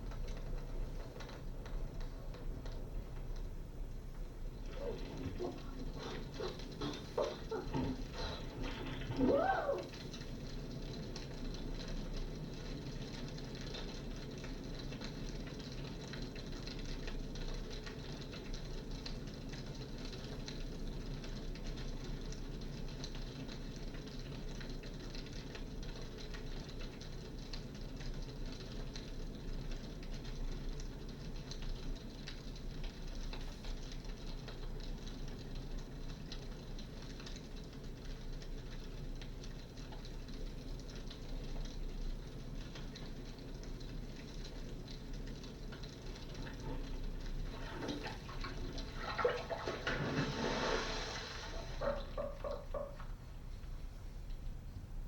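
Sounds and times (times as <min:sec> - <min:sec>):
crackling fire: 0:00.0 - 0:55.0.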